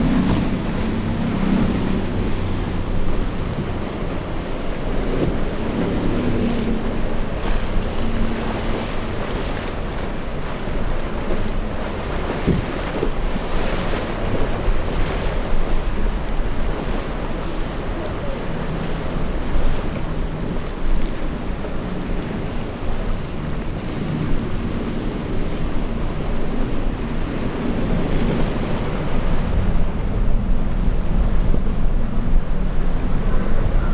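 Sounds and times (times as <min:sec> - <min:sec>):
faint outboard engine: 0:00.0 - 0:33.9
wind buffeting microphone: 0:00.0 - 0:33.9.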